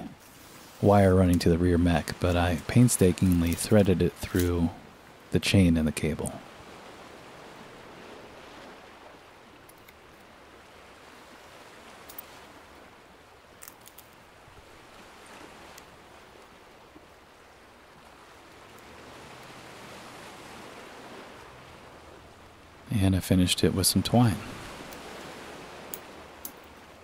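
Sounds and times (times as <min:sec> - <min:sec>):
ocean waves: 0:00.0 - 0:27.0.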